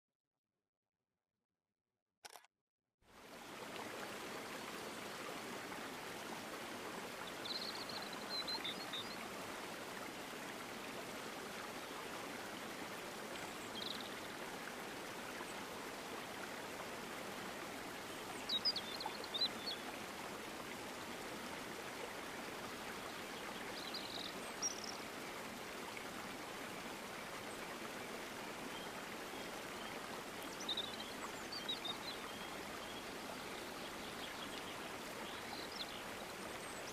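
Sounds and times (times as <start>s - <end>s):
flowing water rushing: 3.0s - 36.9s.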